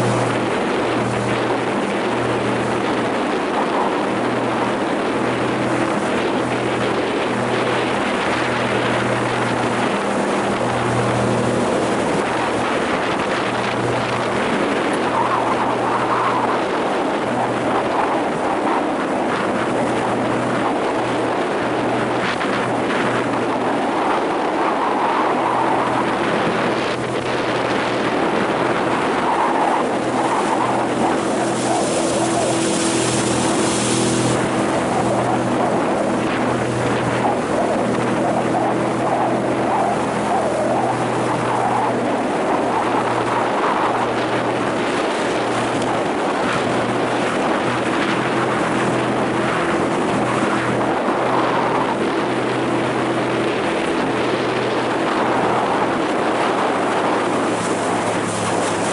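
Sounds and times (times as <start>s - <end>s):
boat motor running: 0.0s - 58.9s
water rushing past hull: 0.0s - 58.9s.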